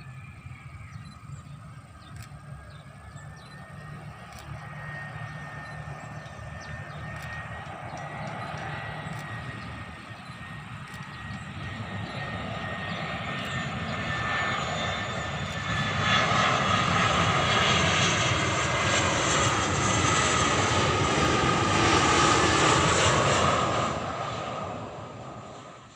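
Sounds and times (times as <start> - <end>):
jet airliner landing: 0.0 - 25.9.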